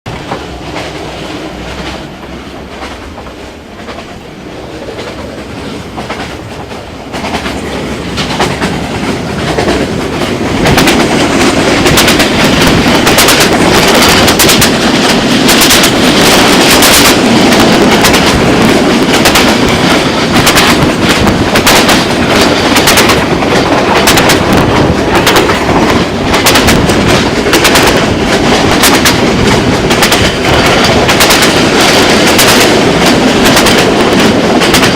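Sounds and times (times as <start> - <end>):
train wheels clattering on rails: 0.1 - 34.9.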